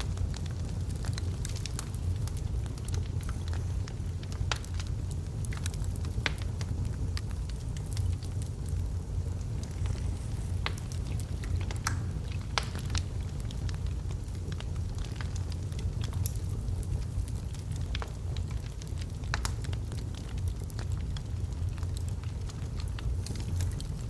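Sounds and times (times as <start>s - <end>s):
fire low rumble: 0.0s - 24.0s
wood fire crackling: 0.0s - 24.0s.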